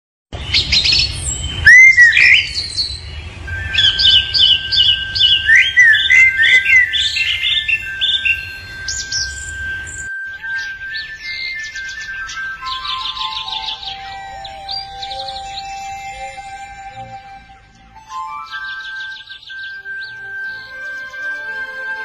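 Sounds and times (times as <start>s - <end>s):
birds chirping and calling: 0.4s - 22.0s
long steady whistled tone: 1.6s - 22.0s.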